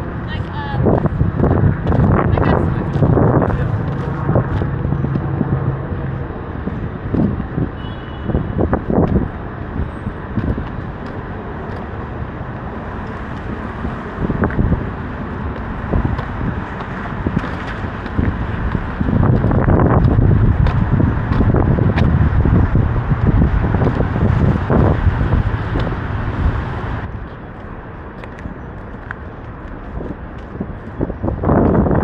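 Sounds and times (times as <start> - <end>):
traffic passing: 0.0 - 32.0.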